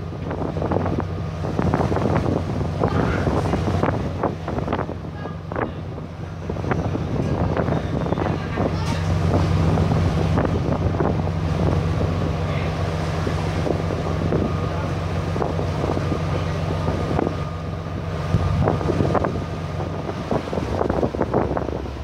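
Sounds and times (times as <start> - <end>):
ferry engines droning: 0.0 - 22.0
wind buffeting microphone: 0.0 - 22.0.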